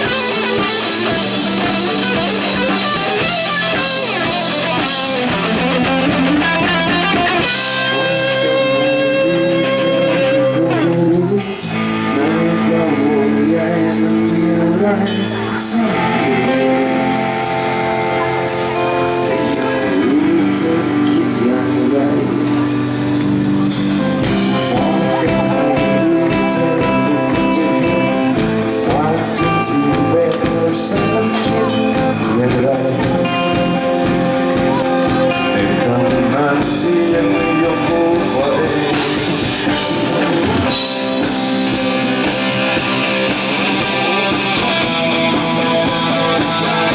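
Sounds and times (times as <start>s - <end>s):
drum kit: 0.0s - 46.9s
electric guitar: 0.0s - 46.9s
person singing: 0.0s - 46.9s.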